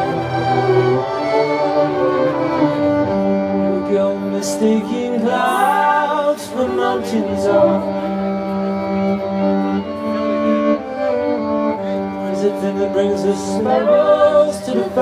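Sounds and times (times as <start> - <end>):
cello and double bass drone: 0.0 - 15.0
violin melody: 0.0 - 15.0.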